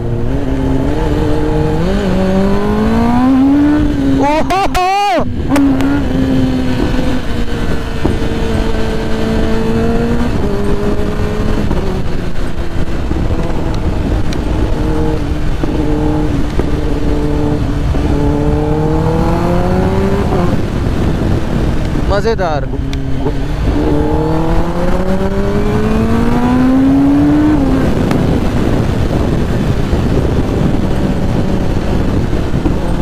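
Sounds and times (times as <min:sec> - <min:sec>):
heavy wind rush: 0:00.0 - 0:33.0
motorcycle engine: 0:00.0 - 0:33.0.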